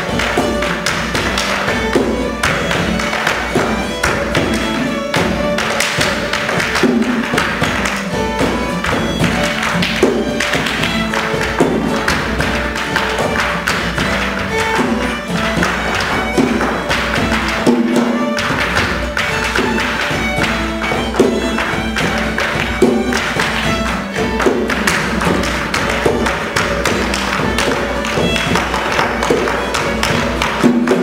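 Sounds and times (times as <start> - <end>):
dancer's shoes tapping floor: 0.0 - 31.0
fiddle playing lively tune: 0.0 - 31.0.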